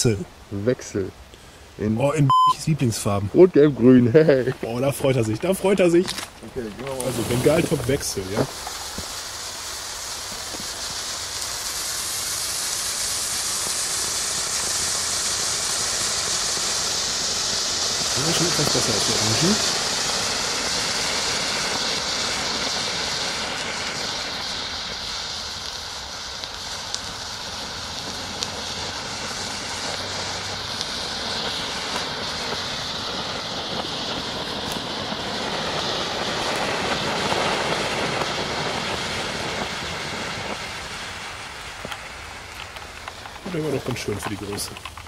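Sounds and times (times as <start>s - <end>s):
faint crackles: 0.0s - 45.0s
flare fountain hissing: 0.0s - 45.0s.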